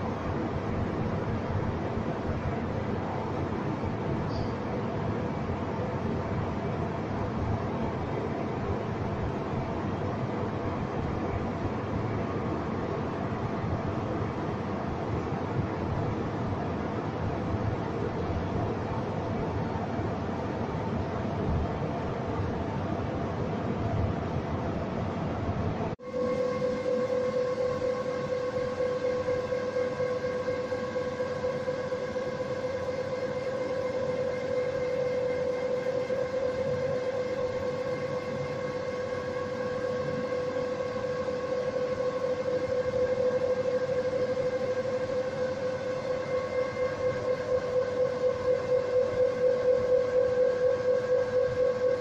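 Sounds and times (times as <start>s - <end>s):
turbine generator whine: 0.0s - 52.0s.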